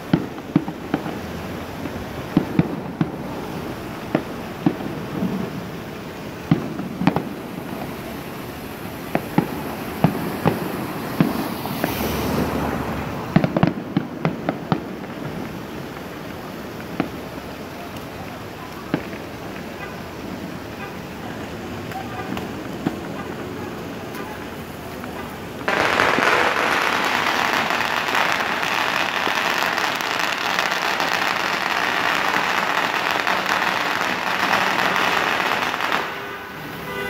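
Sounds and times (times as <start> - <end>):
firework bangs: 0.0 - 37.0.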